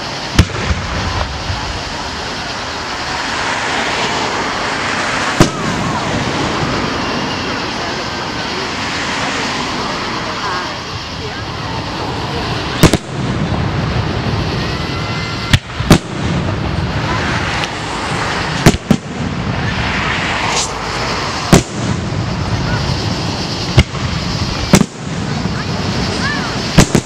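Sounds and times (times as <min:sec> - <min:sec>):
firework shells bursting: 0:00.0 - 0:09.7, 0:12.4 - 0:27.0.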